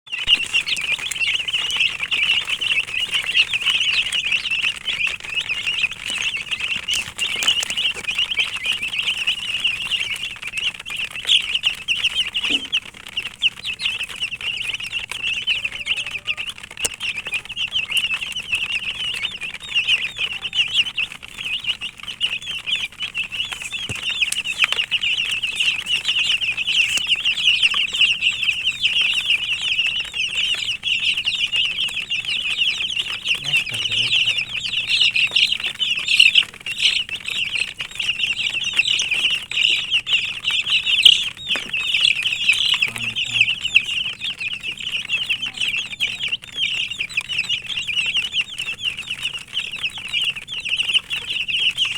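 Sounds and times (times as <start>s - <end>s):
chicks peeping: 0.0s - 51.9s.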